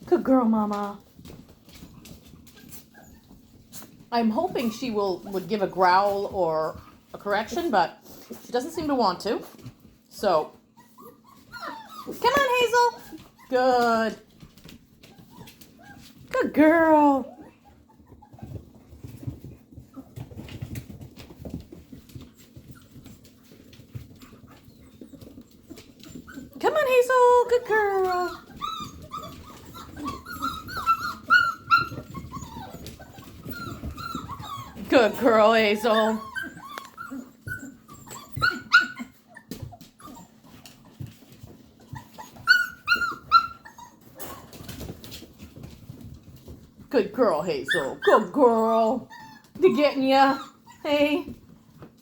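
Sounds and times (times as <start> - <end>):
puppies scrabbling and rustling: 0.0 - 52.0
puppies whimpering: 1.7 - 9.2, 10.6 - 16.2, 16.8 - 46.6, 47.4 - 51.4.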